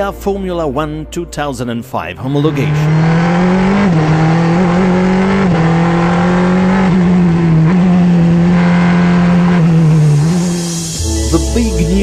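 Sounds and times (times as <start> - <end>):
race car engine accelerating: 2.2 - 12.0.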